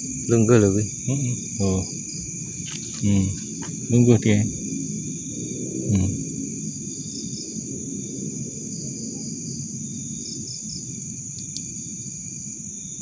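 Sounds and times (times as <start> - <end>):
cricket chirps: 0.0 - 13.0
night insects trilling: 0.0 - 13.0.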